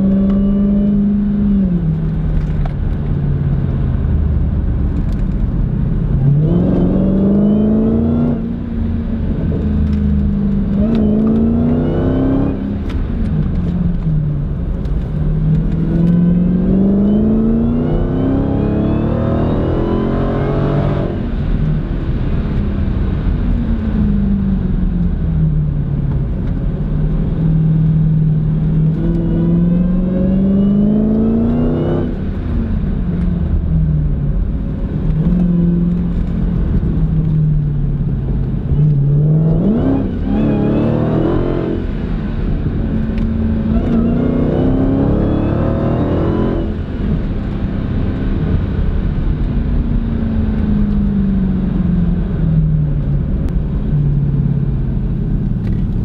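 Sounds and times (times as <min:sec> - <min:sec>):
car engine accelerating: 0:00.0 - 0:56.0
low road rumble: 0:00.0 - 0:56.0.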